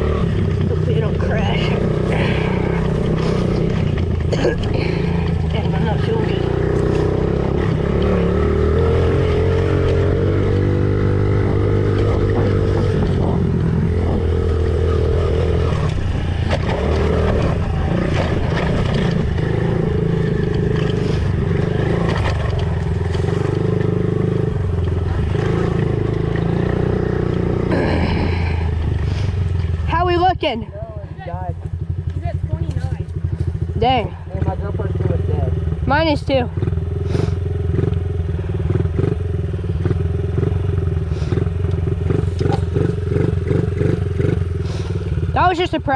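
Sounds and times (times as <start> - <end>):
small motorbike engine revving: 0.0 - 30.4, 31.6 - 45.9.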